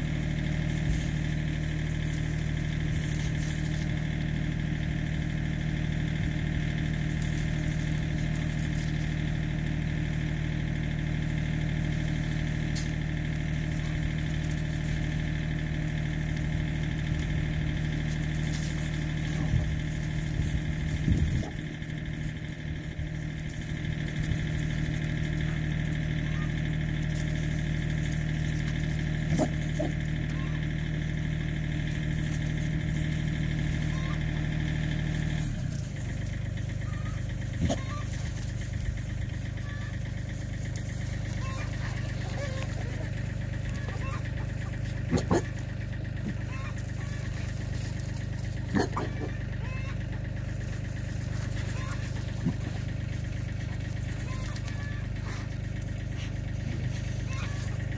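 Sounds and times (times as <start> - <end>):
motor idling hum: 0.0 - 57.9.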